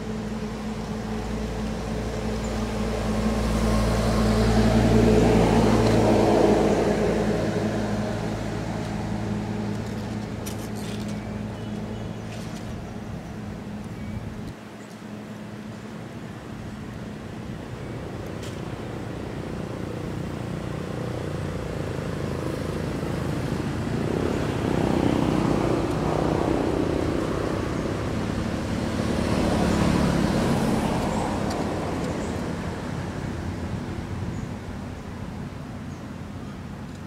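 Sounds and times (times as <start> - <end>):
passing vehicle engine rumble: 0.0 - 37.0.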